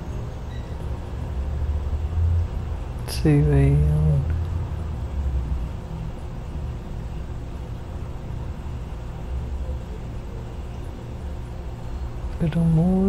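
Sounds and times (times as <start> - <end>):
faint steady hums: 0.0 - 13.0
low background rumble: 0.0 - 13.0.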